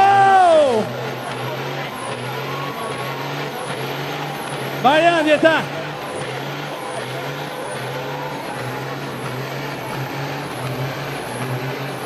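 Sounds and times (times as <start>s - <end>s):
diesel truck engine droning: 0.0s - 12.0s
tire burnout rush: 0.0s - 12.0s.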